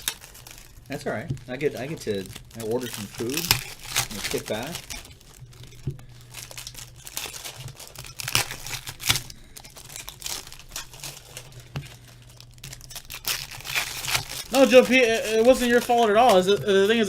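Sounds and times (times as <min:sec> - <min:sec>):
faint low hum: 0:00.0 - 0:17.0
foil wrappers crinkling and tearing: 0:00.0 - 0:17.0.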